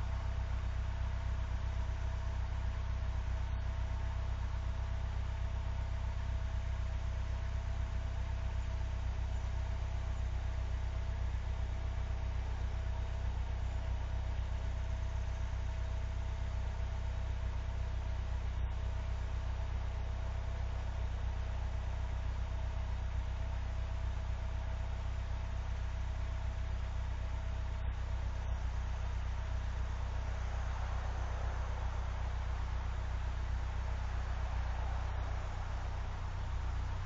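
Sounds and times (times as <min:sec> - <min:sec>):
faint whine: 0:00.0 - 0:37.0
vehicle engine idling: 0:00.0 - 0:37.0.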